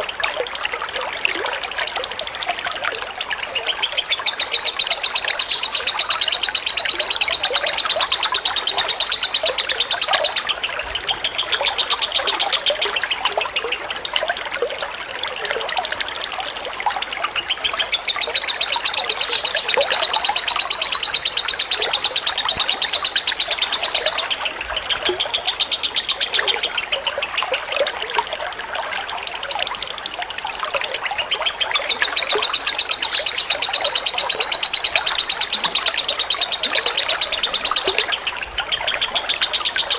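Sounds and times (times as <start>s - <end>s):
lovebird chattering trill: 0.0s - 39.9s
trickling water: 0.0s - 39.9s.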